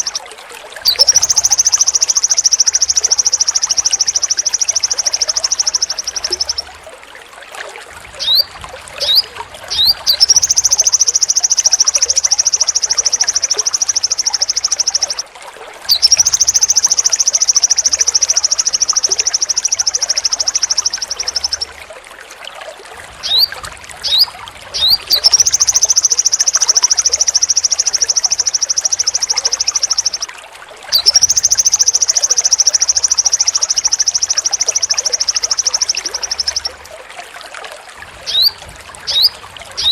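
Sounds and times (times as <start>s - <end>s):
bird singing high rapid trills: 0.0s - 6.8s, 8.2s - 15.3s, 15.9s - 21.8s, 23.2s - 30.3s, 30.9s - 36.8s, 38.3s - 39.9s.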